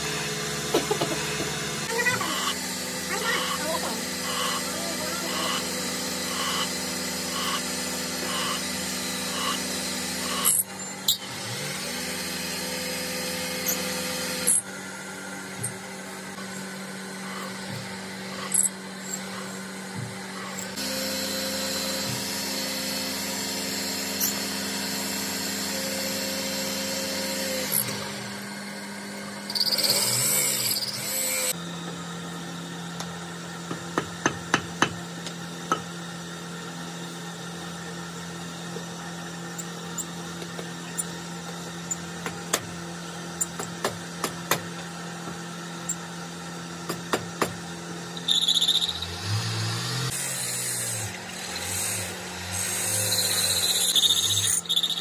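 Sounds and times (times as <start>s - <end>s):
power tool running: 0.0s - 55.0s.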